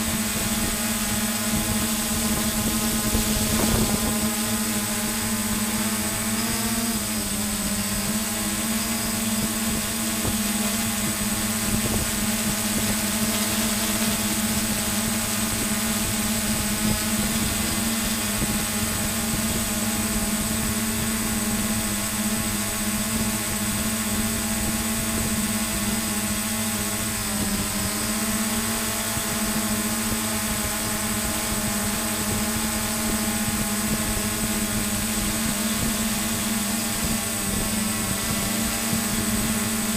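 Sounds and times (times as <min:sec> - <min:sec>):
drone hovering buzz: 0:00.0 - 0:39.9.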